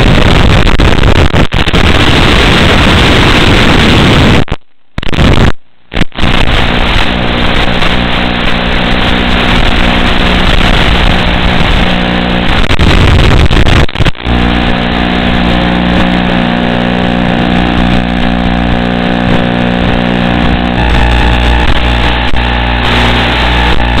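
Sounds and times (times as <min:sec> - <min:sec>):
video link buzzing hiss: 0:00.0 - 0:24.0.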